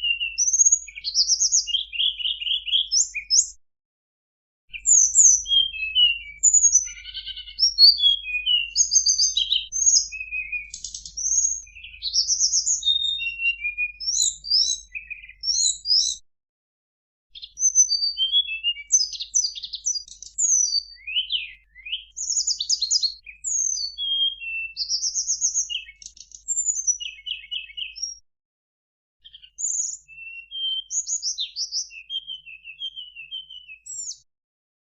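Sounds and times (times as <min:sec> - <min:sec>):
bird singing whistles and trills: 0:00.0 - 0:03.6, 0:04.7 - 0:16.2, 0:17.4 - 0:28.2, 0:29.2 - 0:34.3.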